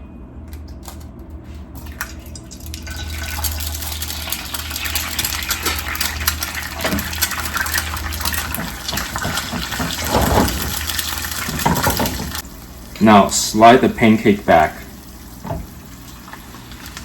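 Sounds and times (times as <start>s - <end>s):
egg sizzling in a skillet: 1.9s - 14.2s, 14.8s - 17.0s.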